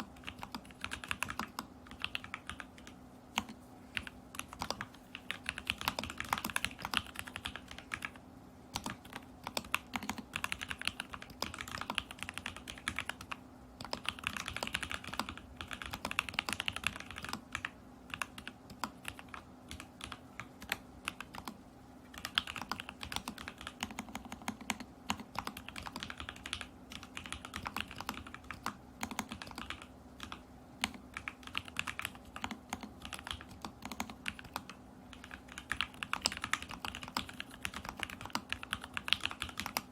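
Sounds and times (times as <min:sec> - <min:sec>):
faint steady hum: 0:00.0 - 0:39.9
mechanical keyboard typing: 0:00.0 - 0:39.9.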